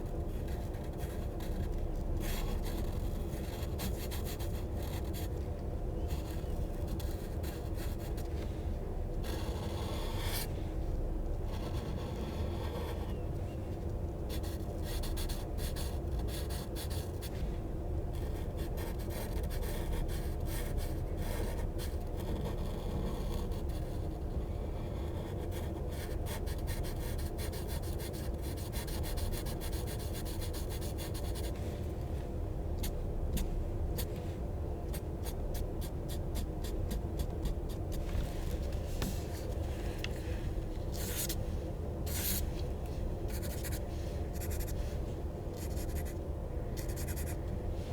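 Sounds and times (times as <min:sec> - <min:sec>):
low background hum: 0:00.0 - 0:47.9.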